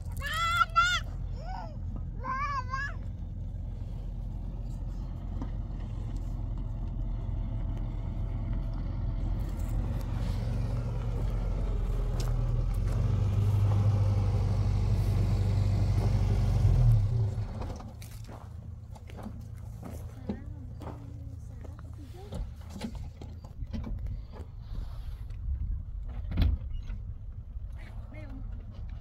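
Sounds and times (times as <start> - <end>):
vehicle engine approaching: 0.0 - 25.2.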